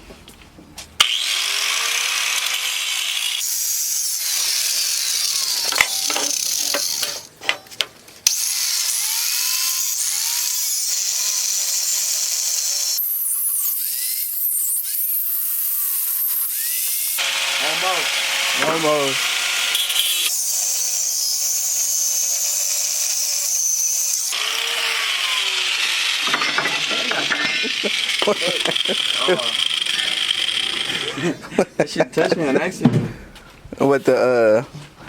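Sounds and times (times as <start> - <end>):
power tool grinding steel: 1.0 - 7.3, 8.3 - 31.3.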